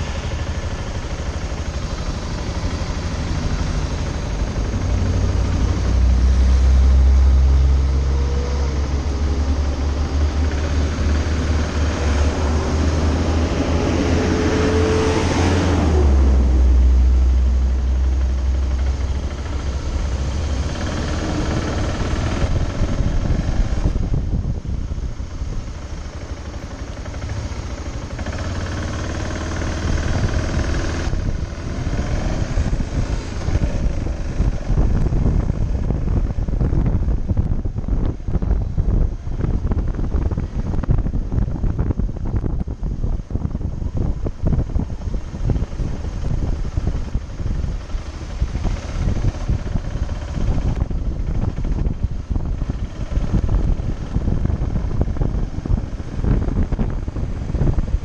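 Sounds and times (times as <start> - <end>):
motorcycle engine idling: 0.0 - 5.9, 17.4 - 58.0
traffic: 0.0 - 58.0.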